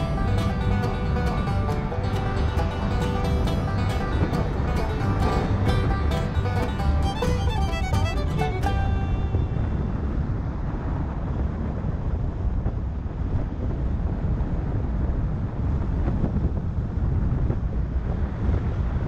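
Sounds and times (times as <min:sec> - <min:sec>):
road and tyre rumble: 0:00.0 - 0:19.0
wind buffeting microphone: 0:00.0 - 0:19.0.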